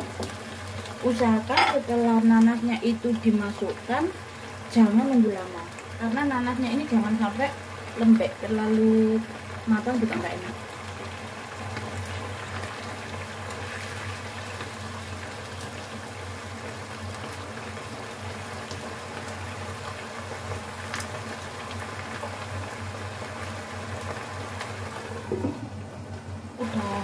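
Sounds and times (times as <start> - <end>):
sauce bubbling in a wok: 0.0 - 1.5, 2.2 - 27.0.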